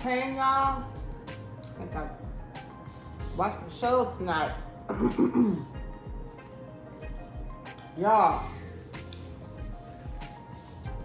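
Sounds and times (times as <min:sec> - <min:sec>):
soft music with held tones: 0:00.0 - 0:11.0.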